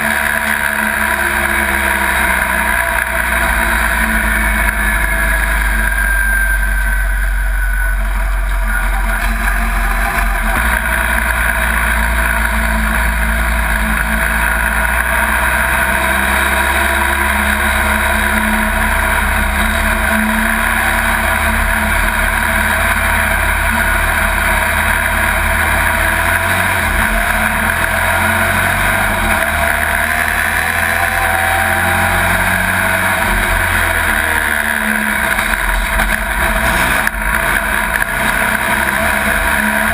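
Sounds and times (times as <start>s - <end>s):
truck engine running loud: 0.0s - 39.9s.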